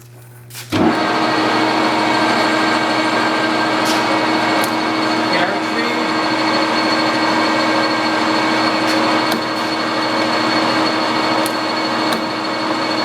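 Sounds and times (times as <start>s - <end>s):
lathe running with whine: 0.8s - 13.0s.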